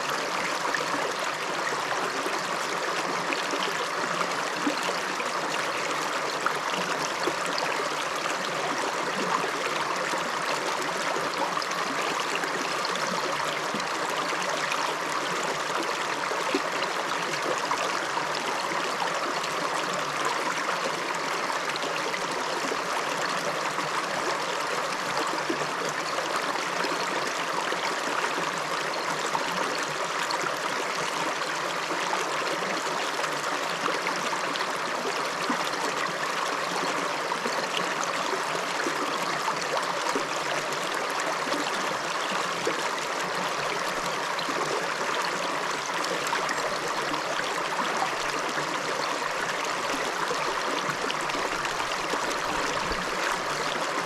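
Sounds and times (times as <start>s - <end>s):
river flowing over stones: 0.0s - 54.0s.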